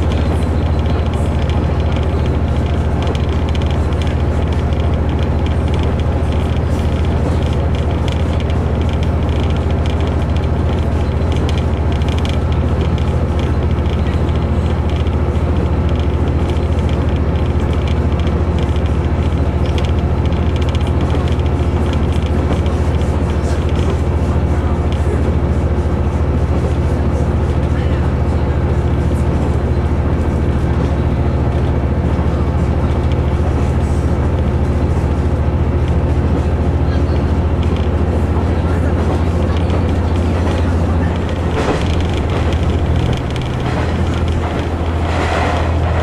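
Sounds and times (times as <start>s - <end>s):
diesel engine humming: 0.0s - 46.0s
train rolling noise: 0.0s - 46.0s.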